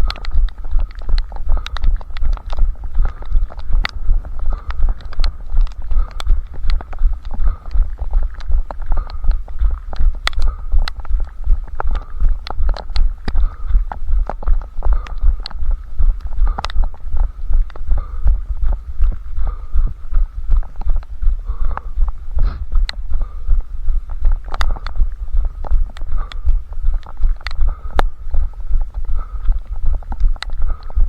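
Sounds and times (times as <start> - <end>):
running footfalls: 0.0 - 31.0
sharp ticks: 0.0 - 31.0.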